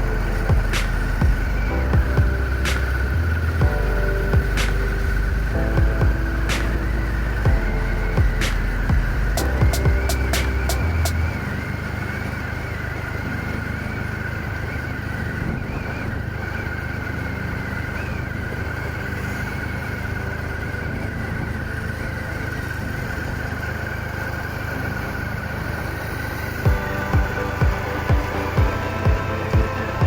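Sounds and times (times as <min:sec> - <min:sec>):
motorcycle engine rumble: 0:00.0 - 0:30.0
road and wind noise: 0:00.0 - 0:30.0.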